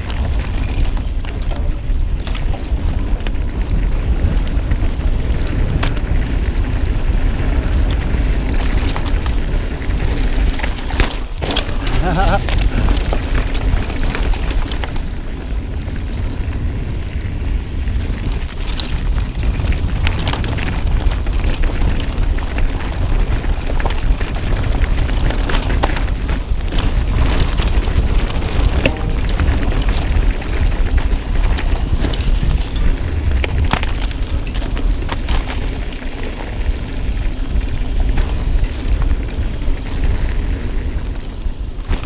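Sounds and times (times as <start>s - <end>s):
bike clicks and rattles: 0.0s - 42.0s
wind buffeting microphone: 0.0s - 42.0s.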